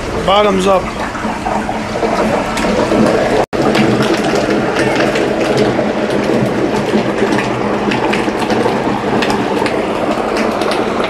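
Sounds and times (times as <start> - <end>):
oil bubbling in deep fryer: 0.0 - 11.0.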